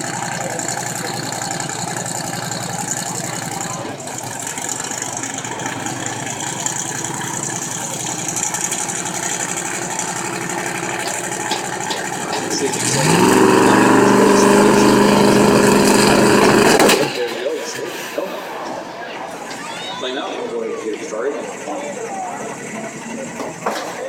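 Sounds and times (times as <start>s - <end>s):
race car engine idling and revving: 0.0s - 18.0s, 18.8s - 24.0s.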